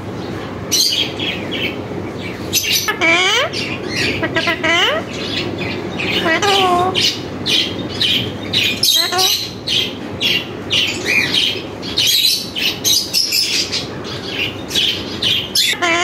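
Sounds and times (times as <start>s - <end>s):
parakeets chirping and squawking: 0.2s - 16.0s.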